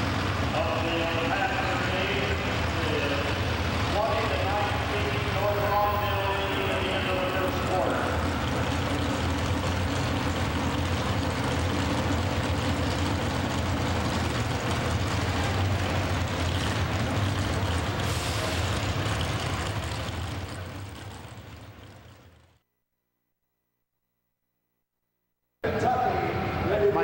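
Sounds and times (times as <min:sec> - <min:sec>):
large engine running: 0:00.0 - 0:22.6.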